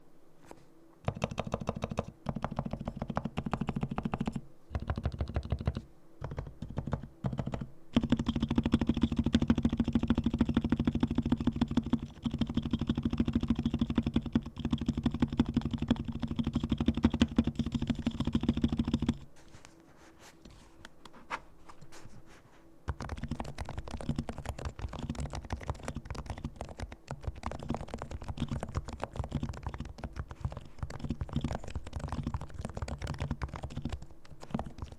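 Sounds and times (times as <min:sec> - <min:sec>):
muted keyboard typing: 0:01.1 - 0:19.3, 0:22.9 - 0:34.9.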